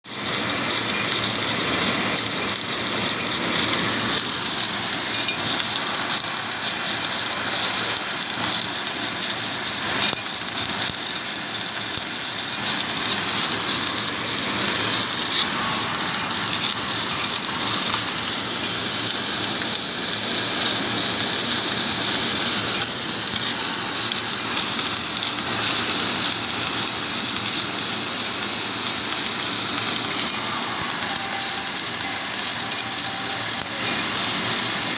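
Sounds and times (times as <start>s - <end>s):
welding rushing noise: 0.1s - 34.9s
thin high whine: 0.7s - 34.9s.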